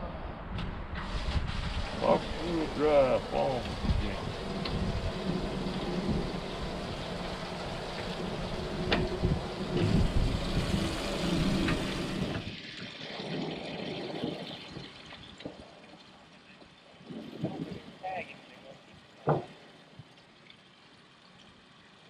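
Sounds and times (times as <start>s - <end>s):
rushing splashing water: 1.0s - 22.0s.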